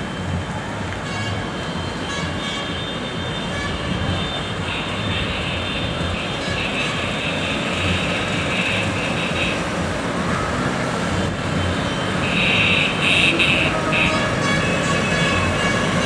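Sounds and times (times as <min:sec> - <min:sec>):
scooter engines droning: 0:00.0 - 0:16.0.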